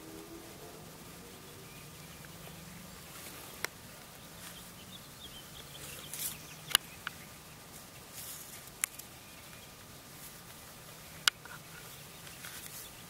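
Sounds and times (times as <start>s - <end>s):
feathers rustling: 0.0s - 13.0s.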